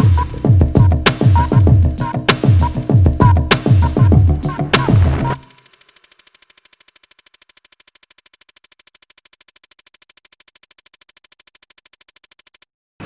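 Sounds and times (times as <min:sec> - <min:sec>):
rapid electronic clicks: 0:00.0 - 0:12.7.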